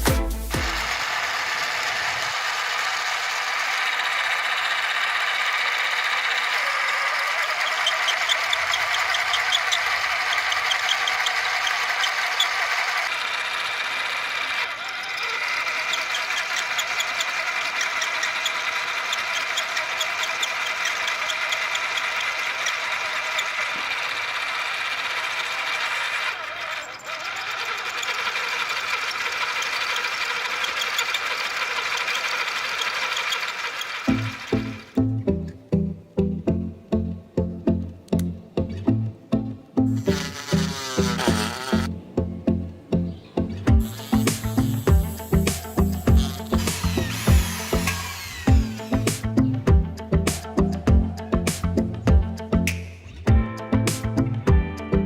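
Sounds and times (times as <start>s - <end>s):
small motor mechanism rattling: 0.0s - 35.0s, 39.9s - 41.9s, 43.7s - 52.0s.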